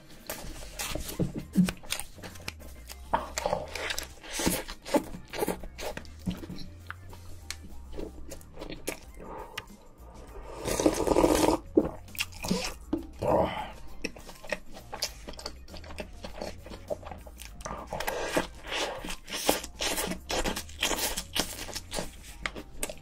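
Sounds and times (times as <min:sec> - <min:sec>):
crunching and chewing snack: 0:00.2 - 0:23.0.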